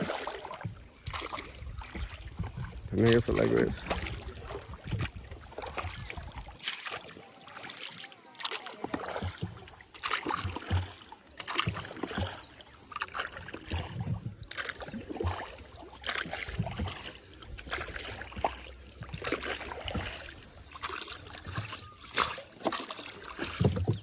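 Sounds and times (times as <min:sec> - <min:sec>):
paddle splashing in water: 0:00.0 - 0:24.0
water sloshing: 0:00.0 - 0:24.0.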